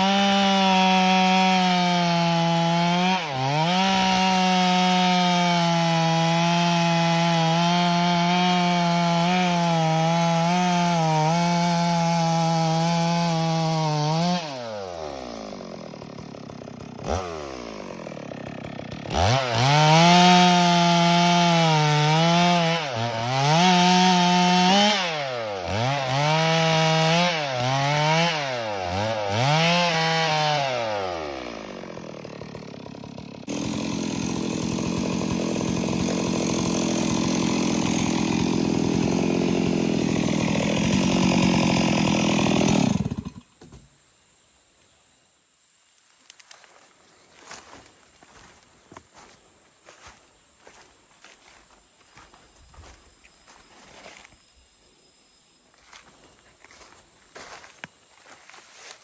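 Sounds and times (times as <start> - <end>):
chainsaw cutting and idling: 0.0 - 43.9, 46.4 - 54.4, 55.7 - 59.0.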